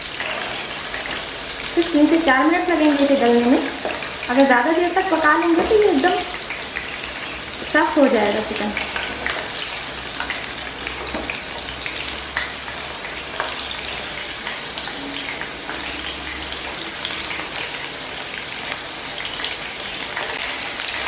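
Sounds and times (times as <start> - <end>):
chicken deep-frying in oil: 0.0 - 21.0.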